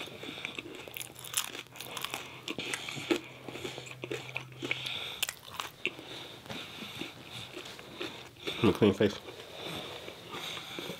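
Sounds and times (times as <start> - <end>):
crunching and chewing food: 0.0 - 10.9.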